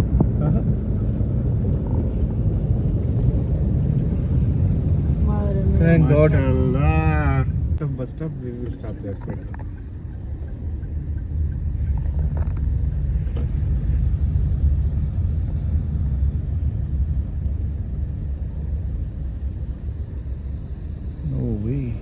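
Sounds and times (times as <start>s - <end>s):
road noise: 0.0s - 22.0s
vehicle engine rumble: 0.0s - 22.0s.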